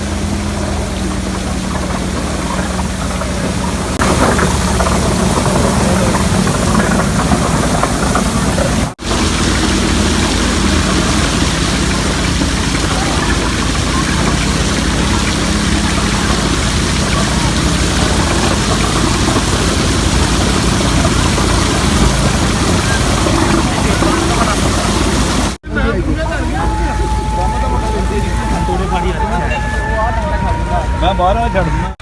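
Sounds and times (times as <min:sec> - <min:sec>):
engine running steadily: 0:00.0 - 0:32.0
loud noisy machine layer: 0:00.0 - 0:32.0.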